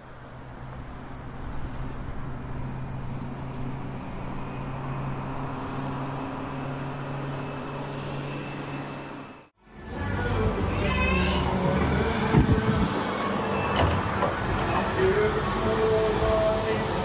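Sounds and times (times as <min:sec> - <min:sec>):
low mechanical hum: 0:00.0 - 0:17.0
rushing noise: 0:00.0 - 0:17.0.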